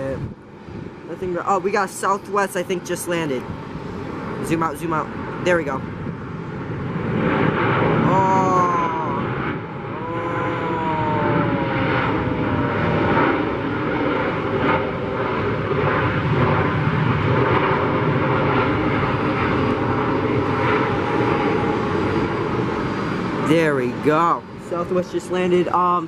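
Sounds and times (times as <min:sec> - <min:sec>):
jet engines roaring and whining: 0:00.0 - 0:26.0.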